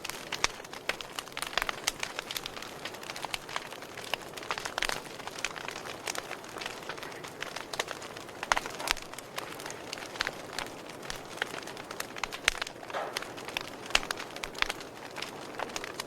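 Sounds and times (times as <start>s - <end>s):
campfire wood crackling and popping: 0.0s - 16.0s
low fire hiss: 0.0s - 16.0s.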